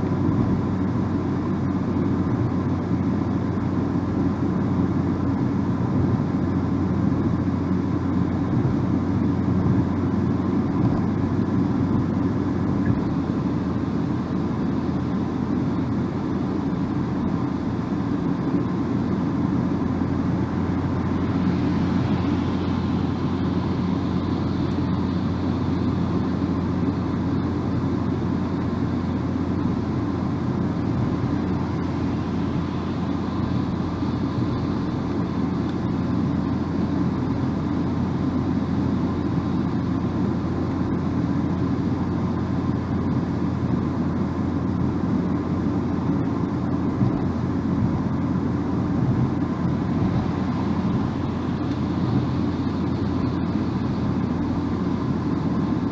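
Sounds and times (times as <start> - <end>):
road and engine rumble in car: 0.0 - 55.9.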